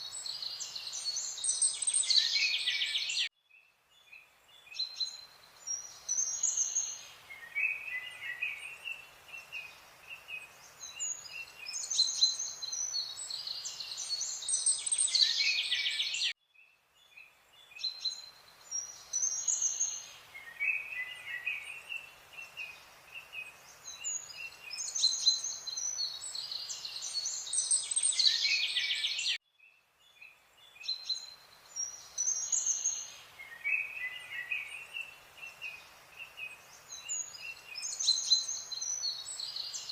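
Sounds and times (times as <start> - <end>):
faint hiss: 0.0 - 39.9
songbirds chirping and singing: 0.0 - 39.9.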